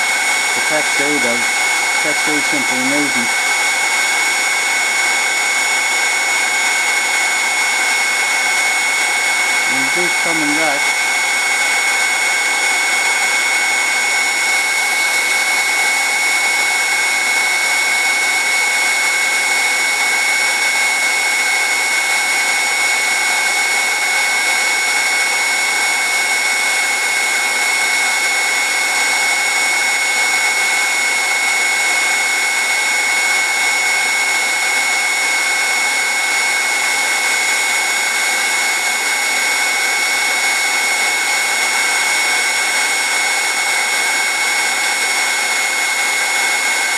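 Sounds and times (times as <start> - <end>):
heat gun running: 0.0 - 46.9.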